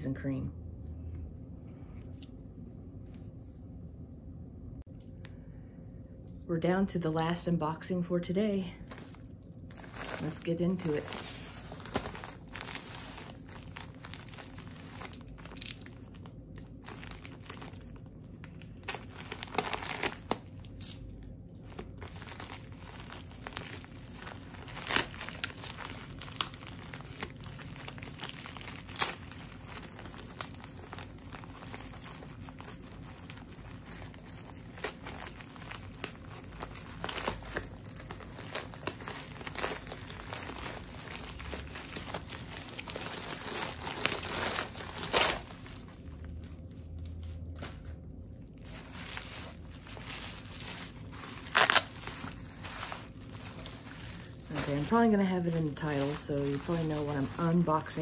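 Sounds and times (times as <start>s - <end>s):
packaging crinkling and rustling: 8.8s - 58.0s.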